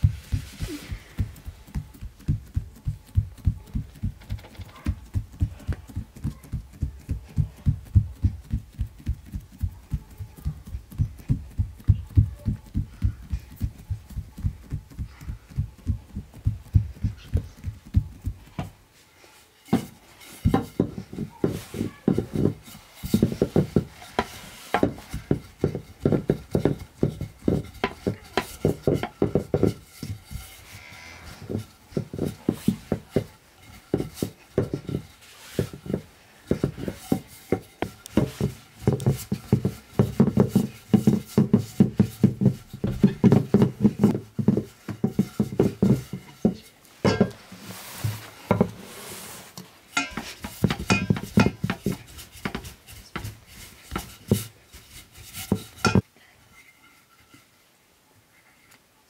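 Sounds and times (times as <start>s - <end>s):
rolling pin thumping dough: 0.0s - 18.8s, 19.6s - 30.7s, 31.4s - 48.8s, 49.9s - 56.0s.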